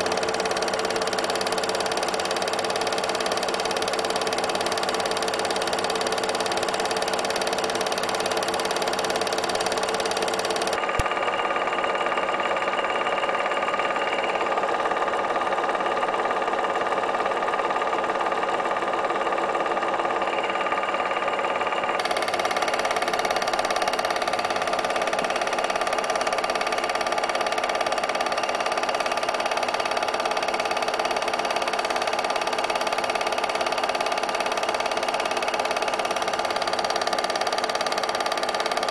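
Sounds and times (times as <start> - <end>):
small motor machine humming: 0.0 - 38.9.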